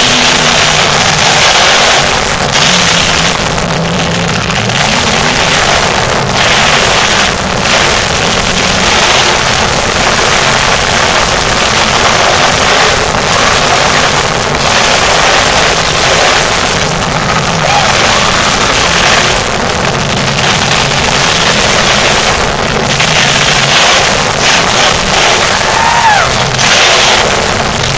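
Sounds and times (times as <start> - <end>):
truck engine at high revs: 0.0 - 27.9.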